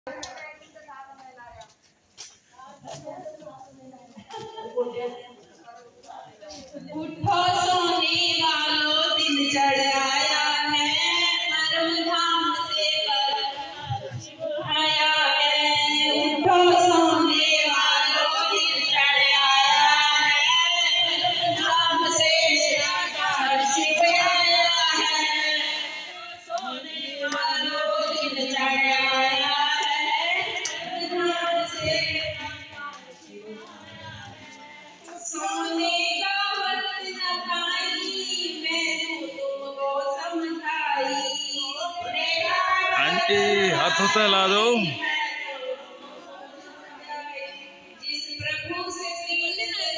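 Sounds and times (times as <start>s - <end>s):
women singing into microphones: 2.8s - 43.1s, 44.9s - 49.9s.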